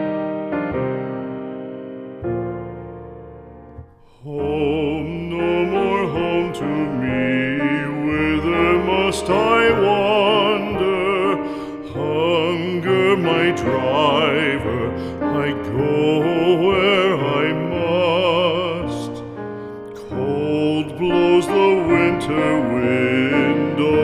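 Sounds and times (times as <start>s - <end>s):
piano chords: 0.0s - 24.0s
person singing with vibrato: 4.0s - 24.0s.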